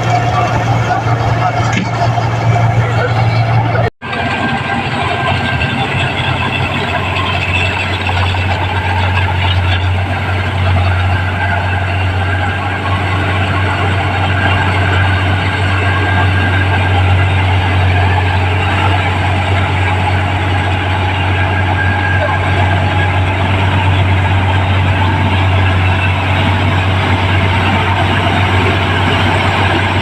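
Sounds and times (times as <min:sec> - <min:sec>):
combine harvester running: 0:00.0 - 0:30.0.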